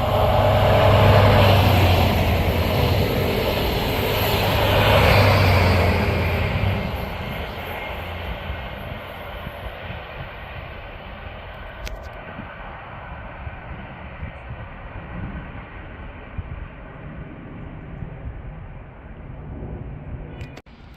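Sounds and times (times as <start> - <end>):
train rumbling past: 0.0 - 20.2.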